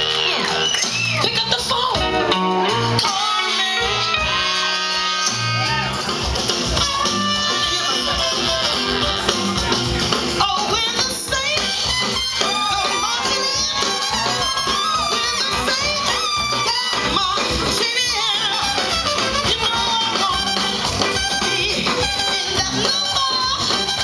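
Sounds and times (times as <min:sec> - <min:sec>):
live soul band playing: 0:00.0 - 0:24.0.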